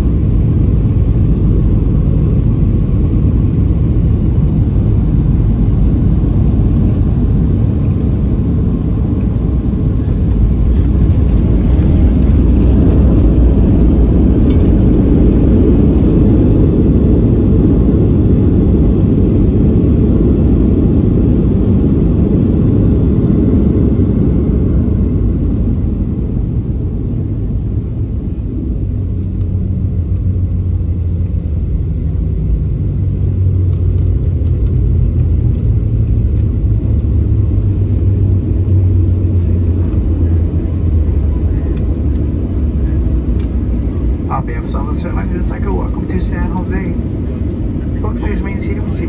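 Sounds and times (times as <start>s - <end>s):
jet engines and wheels rumbling: 0.0s - 49.0s.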